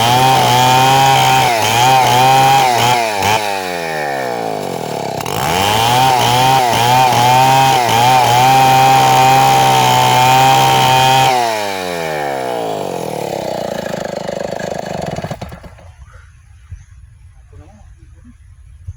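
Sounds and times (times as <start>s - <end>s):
chainsaw engine revving: 0.0s - 16.0s.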